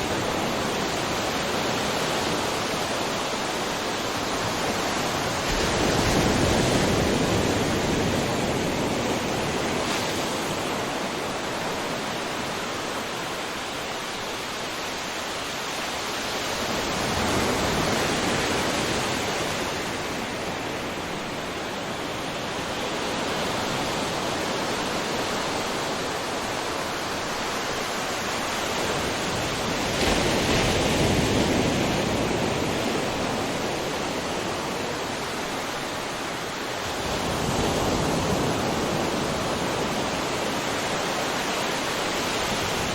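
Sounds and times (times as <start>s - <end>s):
ocean waves on shore: 0.0s - 42.9s.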